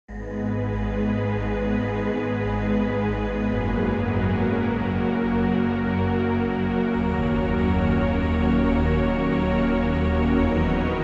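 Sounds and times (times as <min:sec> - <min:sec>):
soft new-age keyboard music: 0:00.1 - 0:11.0.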